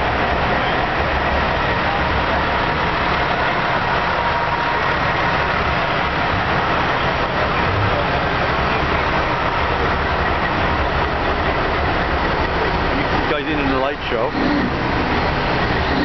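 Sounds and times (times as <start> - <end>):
diesel truck engines idling: 0.0 - 16.0.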